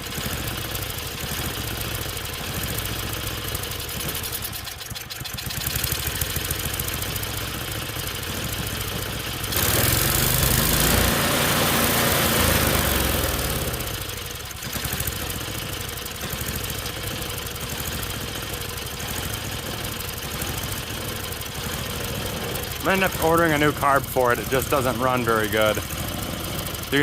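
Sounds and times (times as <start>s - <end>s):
snowblower engine surging: 0.0s - 27.0s.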